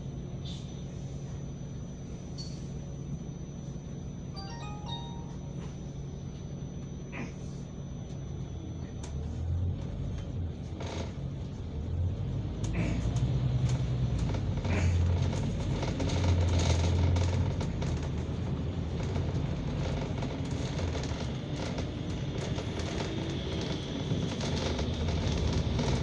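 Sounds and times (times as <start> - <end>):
bus engine and road rumble: 0.0 - 4.2, 5.6 - 26.0.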